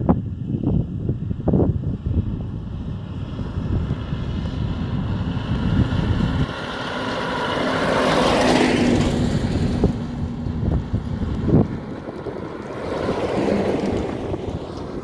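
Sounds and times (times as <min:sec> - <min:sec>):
wind buffeting microphone: 0:00.0 - 0:15.0
truck passing: 0:01.1 - 0:15.0.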